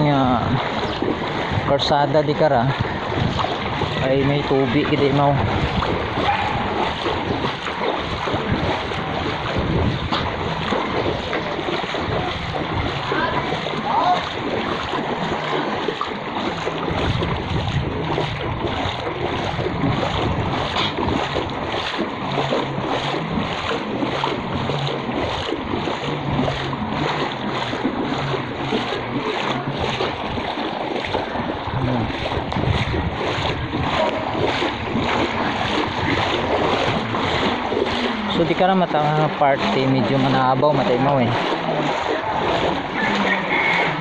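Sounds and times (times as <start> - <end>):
footsteps wading through water: 0.0 - 44.0.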